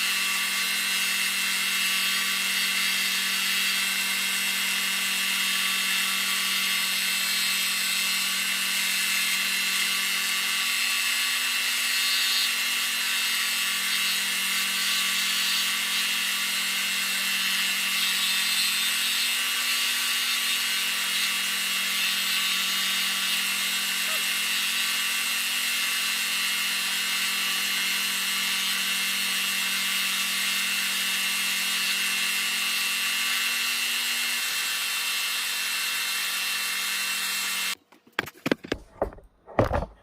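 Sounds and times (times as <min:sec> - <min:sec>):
rotary tool grinding wood: 0:00.0 - 0:40.0.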